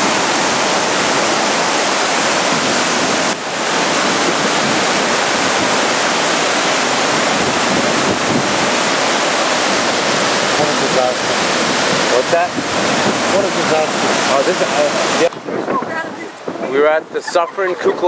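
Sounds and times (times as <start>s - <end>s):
river in flood rushing: 0.0s - 18.0s.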